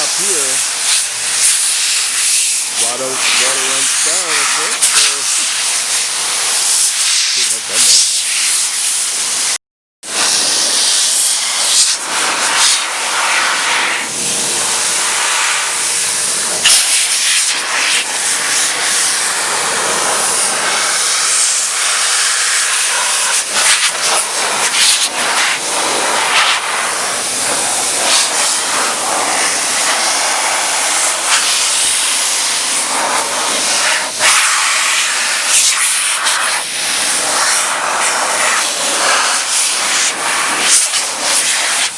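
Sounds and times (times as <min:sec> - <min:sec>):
blow dryer rush of air: 0:00.0 - 0:41.9.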